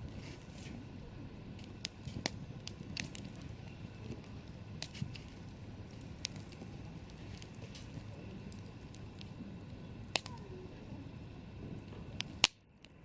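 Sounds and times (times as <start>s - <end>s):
campfire crackling: 0.0s - 13.0s
low steady rumble: 0.0s - 13.0s.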